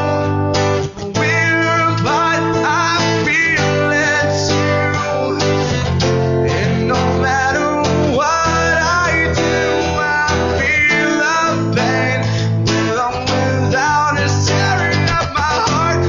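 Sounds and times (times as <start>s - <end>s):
acoustic guitars playing: 0.0s - 16.0s
man singing: 0.0s - 16.0s.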